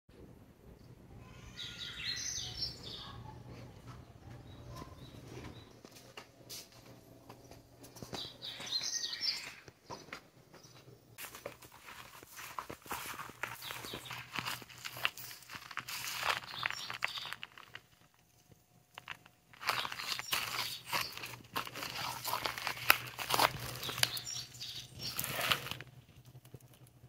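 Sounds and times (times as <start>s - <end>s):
small birds chirping: 0.7s - 6.2s, 7.3s - 18.0s, 19.0s - 25.8s.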